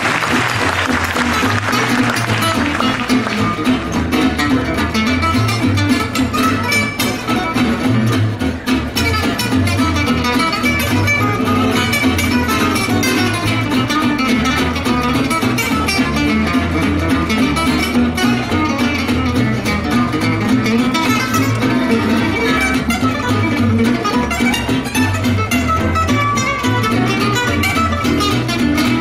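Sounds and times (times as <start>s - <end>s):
flamenco guitar plucked quickly: 0.0s - 29.0s
steady bass line: 0.0s - 29.0s.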